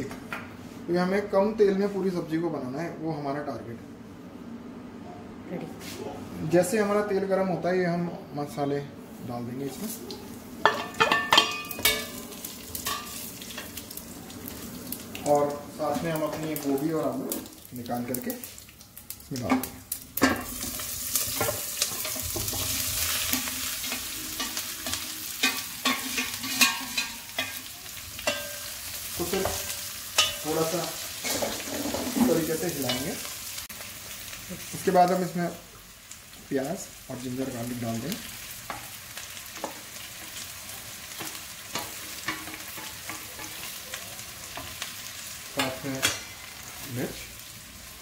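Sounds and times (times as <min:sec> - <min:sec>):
vegetables sizzling in hot oil: 0:09.5 - 0:48.0.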